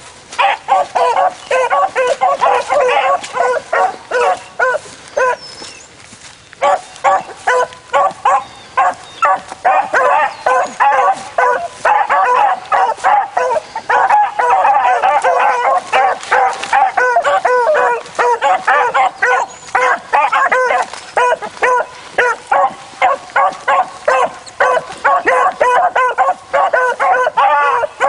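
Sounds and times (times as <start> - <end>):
beagles baying: 0.0 - 28.0.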